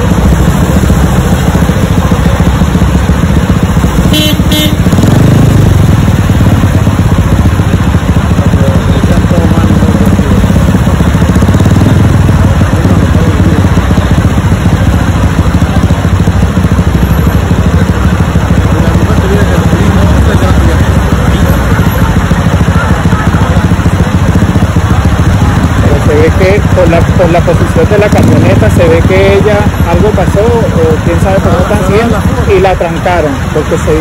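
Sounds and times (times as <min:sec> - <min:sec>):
motorcycle engine idling: 0:00.0 - 0:34.0
traffic: 0:00.0 - 0:34.0.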